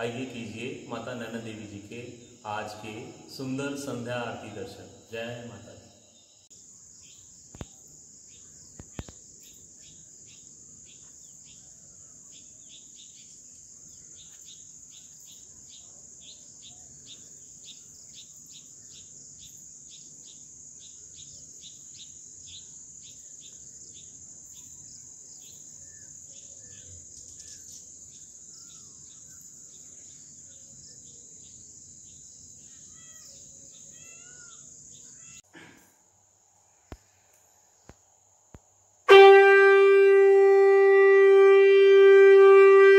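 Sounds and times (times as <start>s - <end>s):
bird chirping: 0.0s - 35.4s
insect chirps: 0.0s - 39.2s
cricket trill: 0.0s - 39.3s.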